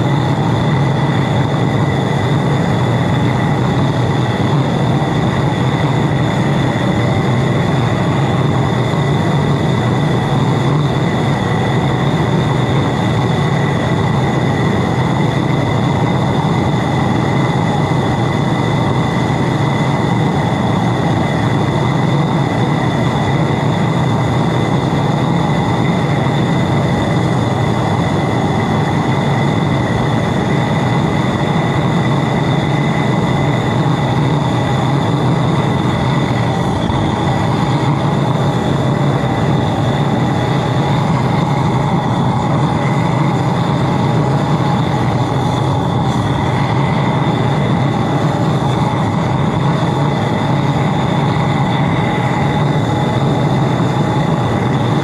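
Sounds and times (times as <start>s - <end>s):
burner roaring: 0.0s - 55.0s.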